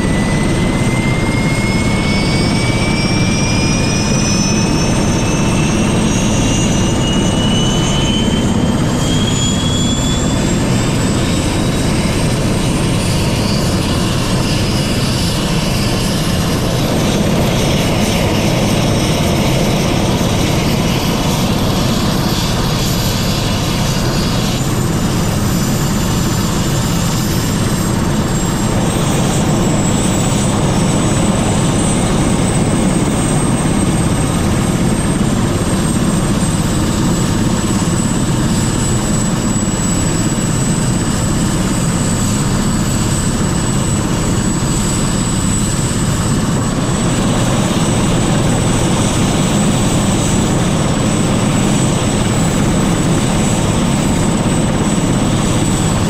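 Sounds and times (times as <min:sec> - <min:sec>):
helicopter rotor and engine: 0:00.0 - 0:56.0
high whine: 0:00.0 - 0:56.0.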